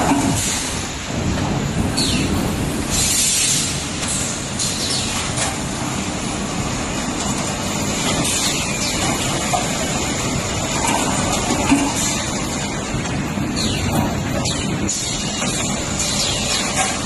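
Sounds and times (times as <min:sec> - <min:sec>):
coiling machine rumble and hiss: 0:00.0 - 0:17.0.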